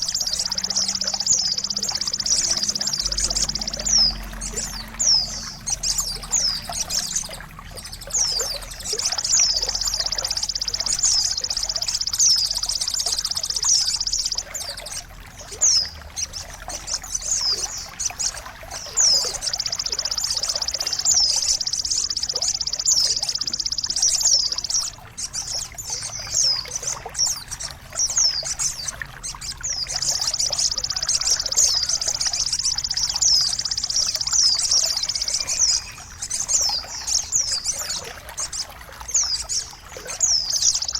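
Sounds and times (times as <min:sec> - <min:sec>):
songbird trills: 0:00.0 - 0:40.9
trickle of running water: 0:00.0 - 0:40.9.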